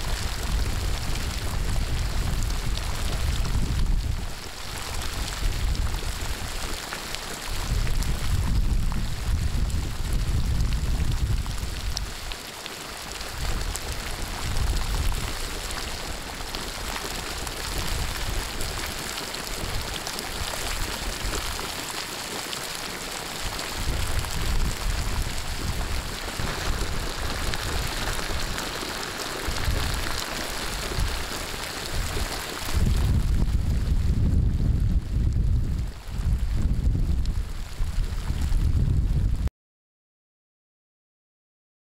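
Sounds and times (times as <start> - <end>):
wind rumble on microphone: 0.0 - 6.8, 7.4 - 12.4, 13.2 - 21.6, 23.4 - 28.7, 29.4 - 39.5
spring water gushing and splashing: 0.0 - 34.0.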